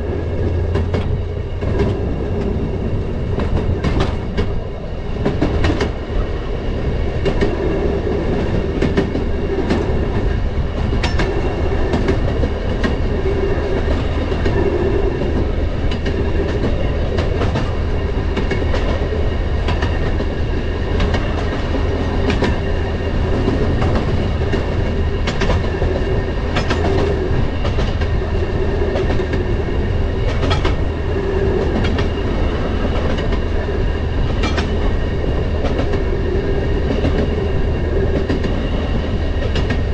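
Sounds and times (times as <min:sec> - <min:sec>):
rail motorcar engine and wheels: 0:00.0 - 0:39.9
wheels clicking on rail joints: 0:00.0 - 0:39.9.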